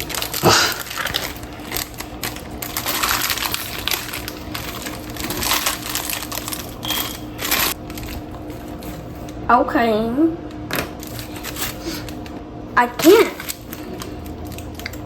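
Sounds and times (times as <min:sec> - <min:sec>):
plastic wrapper crinkling: 0:00.0 - 0:09.4, 0:11.0 - 0:12.4, 0:13.0 - 0:15.0.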